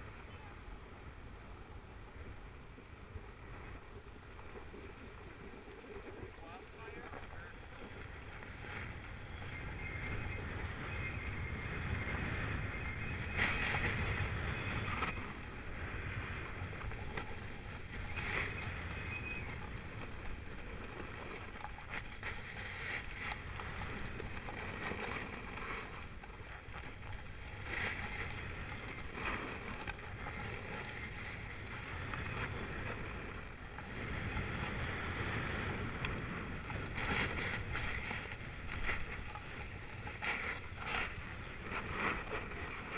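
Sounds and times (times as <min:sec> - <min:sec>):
skis scraping over snow: 0:00.0 - 0:42.9
wind buffeting microphone: 0:00.0 - 0:42.9.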